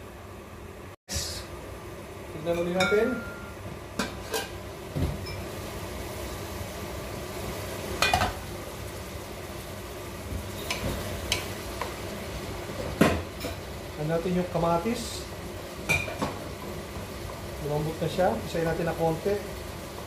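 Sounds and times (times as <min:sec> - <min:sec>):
soft sizzle: 0:00.0 - 0:20.0.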